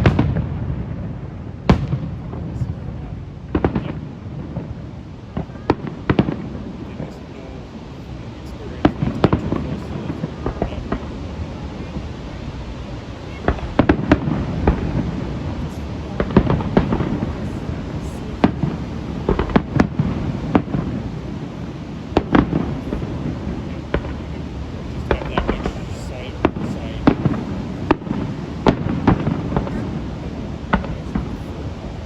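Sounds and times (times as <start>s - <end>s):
fireworks exploding: 0.0s - 32.0s.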